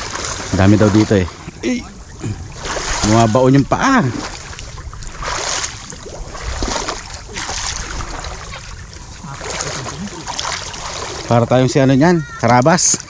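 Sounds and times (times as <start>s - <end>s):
creek water sloshing and splashing: 0.0s - 13.0s.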